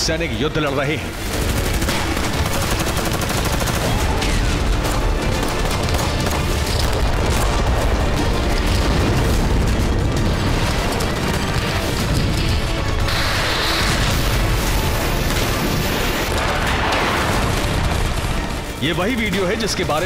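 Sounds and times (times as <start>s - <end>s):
dramatic background music: 0.0s - 20.0s
rapid gunfire: 1.1s - 20.0s.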